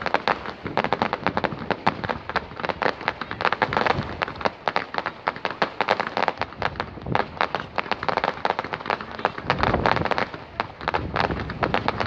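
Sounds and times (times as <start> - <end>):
fireworks cracks and bangs: 0.0 - 12.0.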